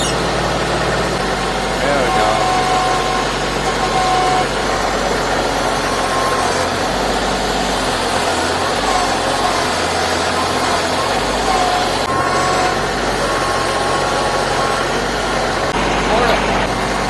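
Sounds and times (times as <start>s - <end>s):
heavy equipment engine running: 0.0s - 17.0s.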